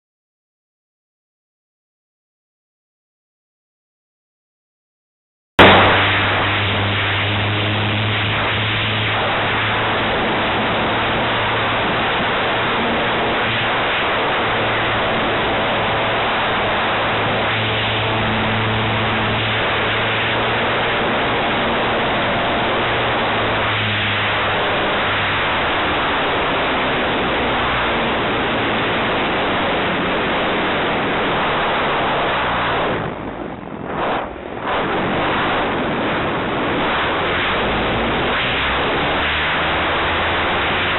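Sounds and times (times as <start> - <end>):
airflow rushing over microphone: 5.6 - 40.9
electric motor and propeller hum: 5.6 - 40.9.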